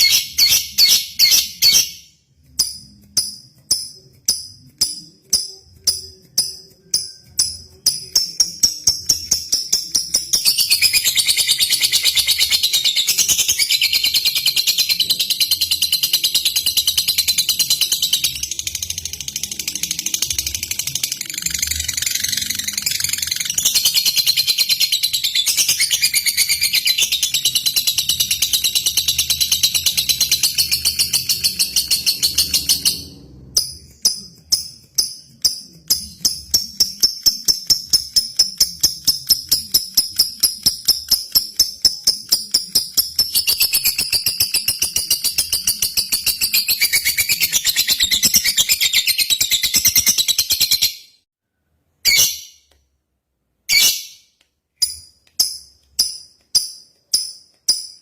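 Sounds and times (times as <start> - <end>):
bird chattering song: 0.0 - 51.0
sharp bird chirps: 0.0 - 51.3.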